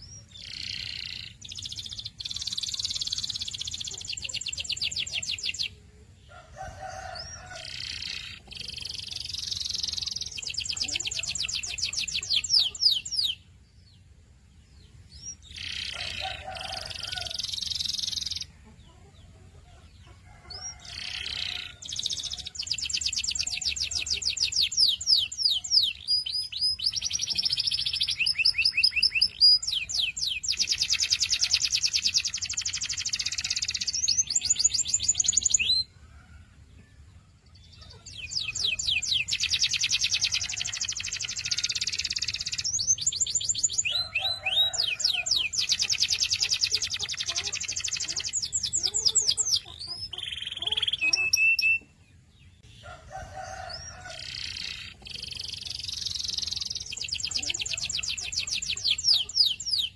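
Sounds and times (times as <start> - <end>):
canary singing trills: 0.0 - 36.0, 37.5 - 59.9.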